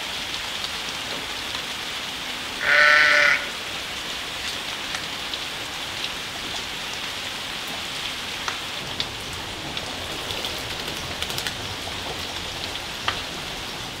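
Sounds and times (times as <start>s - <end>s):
raindrops tapping surfaces: 0.0s - 14.0s
steady rain hiss: 0.0s - 14.0s.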